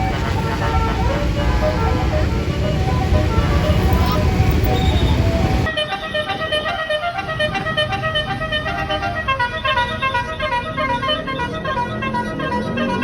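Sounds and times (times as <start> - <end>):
multi-tone bus air horn melody: 0.0 - 13.0.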